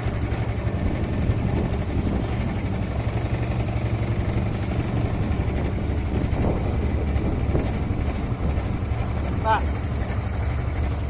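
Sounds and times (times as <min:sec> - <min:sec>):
boat motor droning: 0:00.0 - 0:11.0
water: 0:00.0 - 0:11.0
wind: 0:00.0 - 0:11.0.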